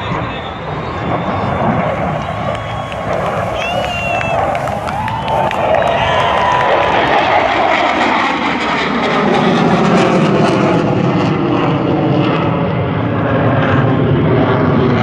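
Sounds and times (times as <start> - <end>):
fighter jet roar: 0.0 - 15.0.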